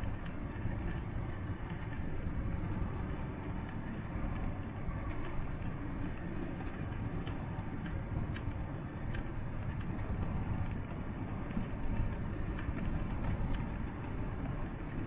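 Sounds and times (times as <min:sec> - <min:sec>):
faint light ticks: 0:00.0 - 0:15.0.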